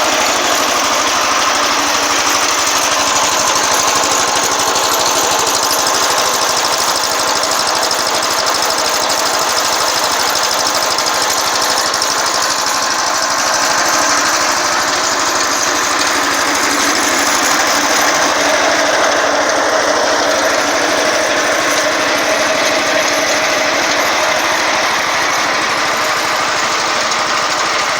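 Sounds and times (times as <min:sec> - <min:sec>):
garden tractor engine running: 0:00.0 - 0:27.9.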